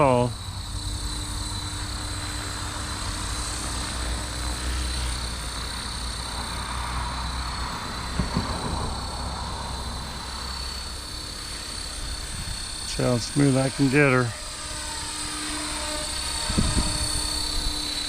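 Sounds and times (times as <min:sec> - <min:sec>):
rc helicopter motor whine: 0:00.0 - 0:18.0.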